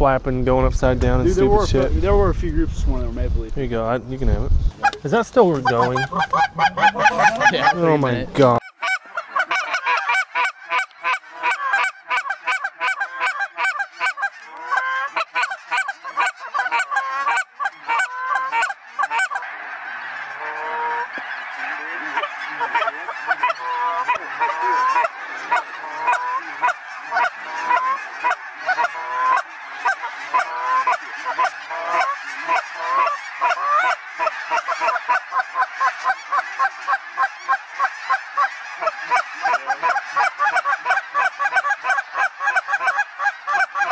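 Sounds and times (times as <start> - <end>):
flock of geese honking: 4.8 - 43.9.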